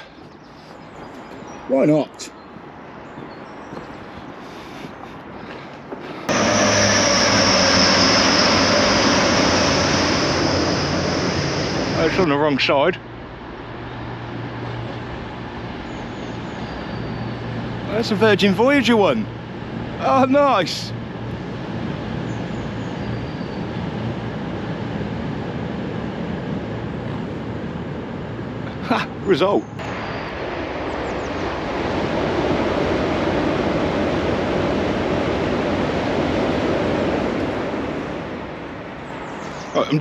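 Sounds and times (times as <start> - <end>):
diesel train passing: 0.0 - 0.2, 4.0 - 40.0
drone propeller whine: 4.9 - 40.0.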